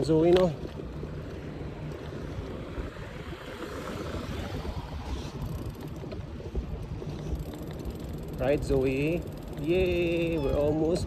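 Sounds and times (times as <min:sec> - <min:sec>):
bike rumble and road noise: 0:00.0 - 0:11.0.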